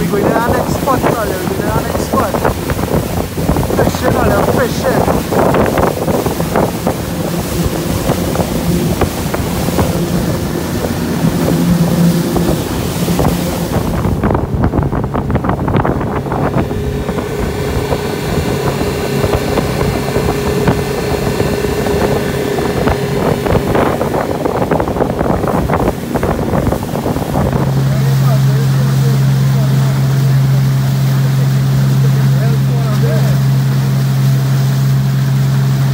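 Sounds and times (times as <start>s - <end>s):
outboard motor running: 0.0s - 35.9s
water rushing against hull: 0.0s - 35.9s
wind buffeting microphone: 0.0s - 35.9s.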